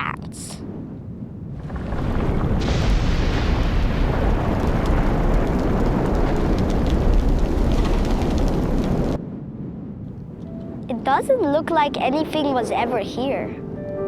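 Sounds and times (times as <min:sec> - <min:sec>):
volcanic eruption rumble and crackling: 0:00.0 - 0:13.6.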